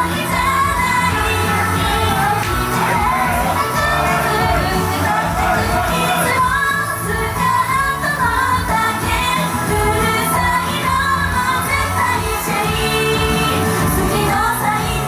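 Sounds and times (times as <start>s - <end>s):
loud pop music: 0.0s - 15.0s
woman singing pop song live: 0.0s - 15.0s.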